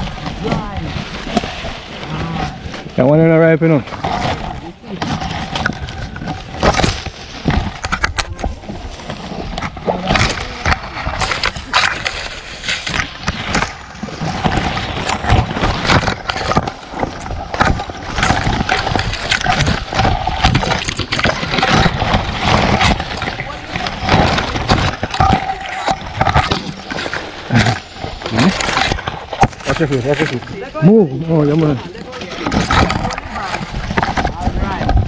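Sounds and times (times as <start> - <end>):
branches knocking: 0.0 - 35.0
leaves and twigs rustling: 0.0 - 35.0.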